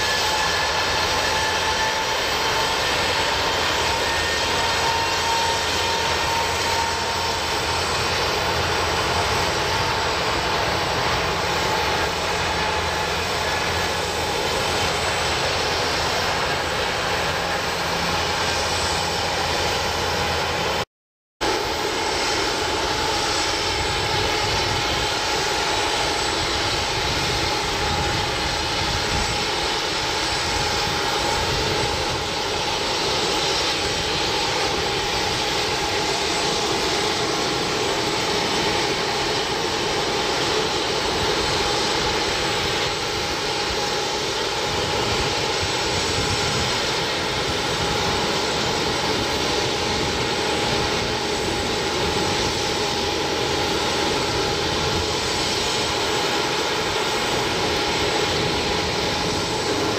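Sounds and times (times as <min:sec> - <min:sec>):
turboprop engines idling: 0:00.0 - 0:20.8, 0:21.4 - 0:59.9.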